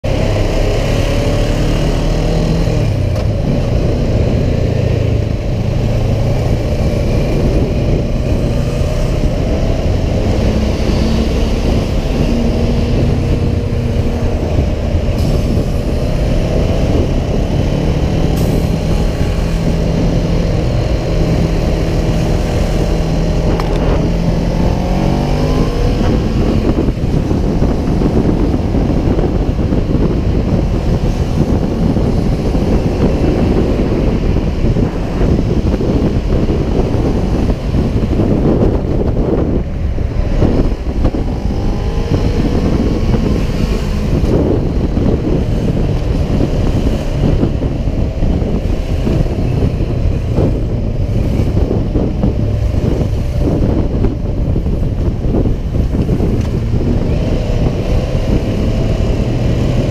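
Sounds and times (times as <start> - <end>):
passing traffic: 0.0 - 59.9
motorcycle engine running: 2.1 - 59.9.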